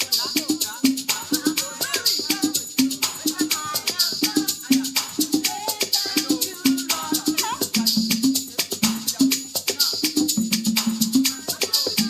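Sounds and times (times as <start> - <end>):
shaker rhythm: 0.0 - 12.0.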